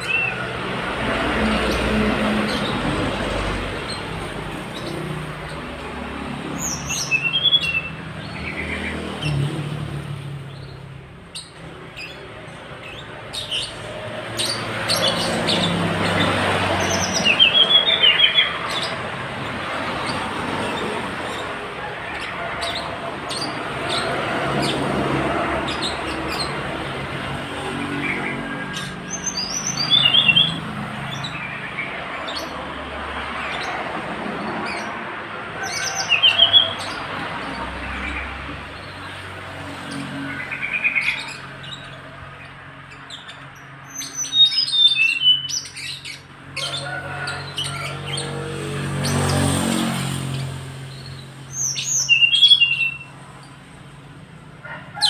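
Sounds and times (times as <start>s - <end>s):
distant traffic rumble: 0.0s - 55.0s.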